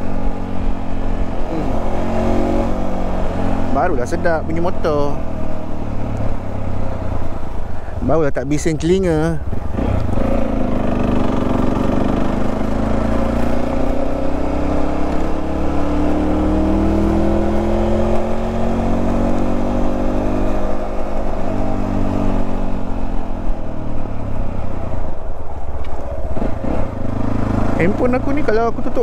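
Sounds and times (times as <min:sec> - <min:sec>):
wind rumble: 0:00.0 - 0:28.0
motorcycle engine and exhaust: 0:00.0 - 0:29.0.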